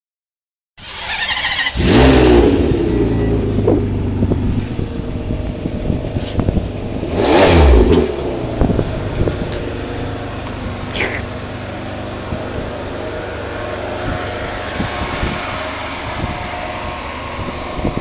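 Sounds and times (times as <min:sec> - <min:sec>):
car engine idling: 0:00.8 - 0:18.0
car engine revving: 0:00.8 - 0:18.0.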